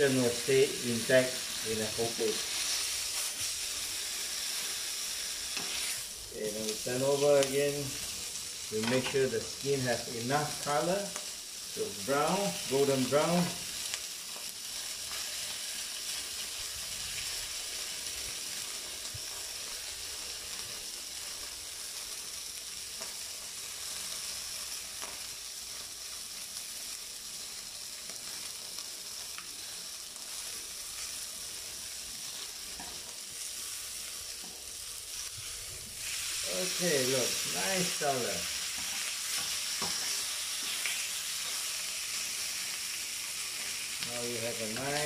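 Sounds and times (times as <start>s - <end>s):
chicken sizzling in a frying pan: 0.0s - 45.0s.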